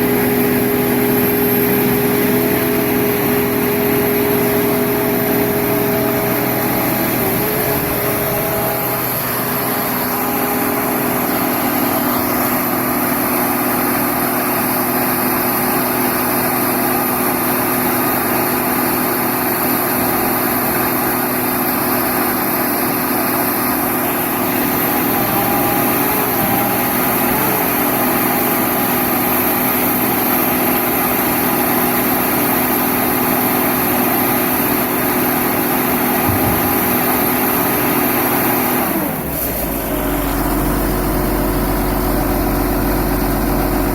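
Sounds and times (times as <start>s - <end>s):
baler engine drone with whine: 0.0s - 43.9s.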